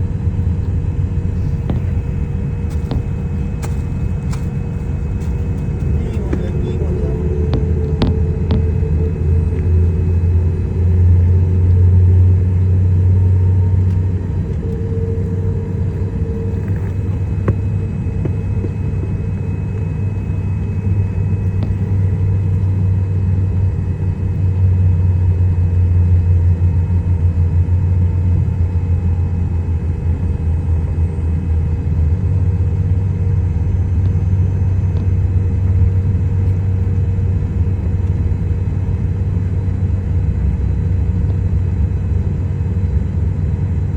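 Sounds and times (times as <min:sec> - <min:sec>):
jet engine rumble: 0:00.0 - 0:43.9
jet engine whine: 0:00.0 - 0:43.9.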